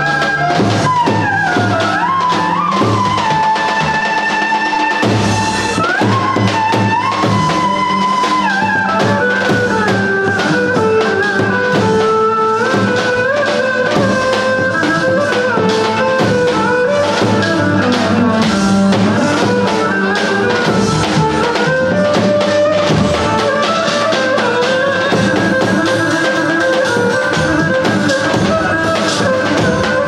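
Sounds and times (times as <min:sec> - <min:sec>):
music with quick drum beat: 0:00.0 - 0:30.0.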